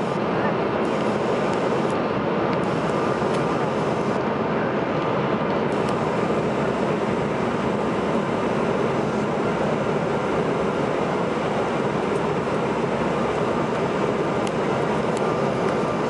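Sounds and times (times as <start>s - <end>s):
jet cabin engine and airflow noise: 0.0s - 16.0s.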